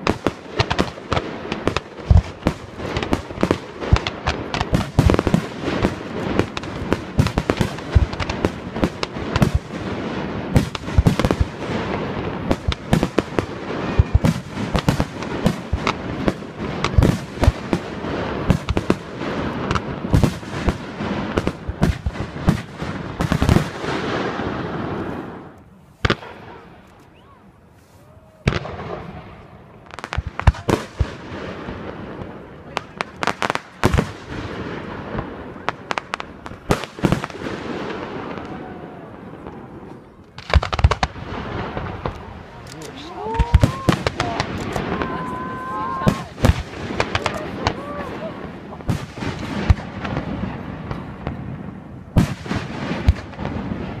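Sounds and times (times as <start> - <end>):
fireworks banging and crackling: 0.0 - 27.4, 28.1 - 54.0.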